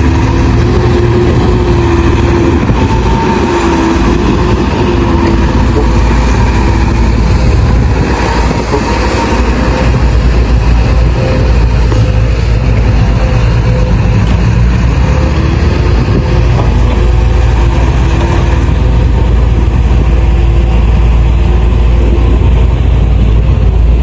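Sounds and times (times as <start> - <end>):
faint engine whine: 0.0 - 24.0
heavy diesel engines rumbling: 0.0 - 24.0.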